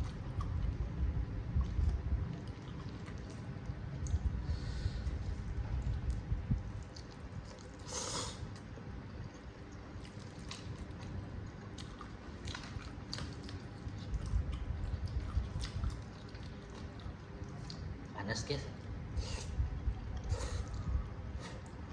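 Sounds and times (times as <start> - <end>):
person chewing noodles: 0.0 - 18.1, 18.8 - 21.9.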